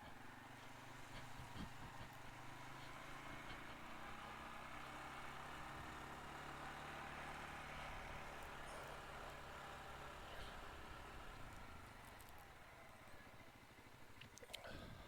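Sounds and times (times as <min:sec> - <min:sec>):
atv engine running at low speed: 0:00.0 - 0:15.0.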